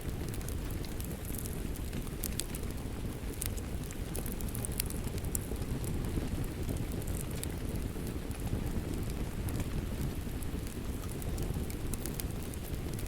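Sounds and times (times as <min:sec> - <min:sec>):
rain: 0:00.0 - 0:13.0
wood fire crackling: 0:00.0 - 0:13.0.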